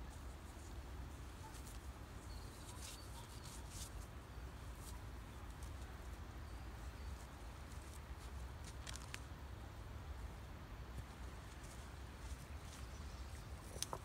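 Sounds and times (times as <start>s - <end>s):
high-pitched ticks and rustles: 0.1s - 6.2s, 6.8s - 9.3s, 10.9s - 14.0s.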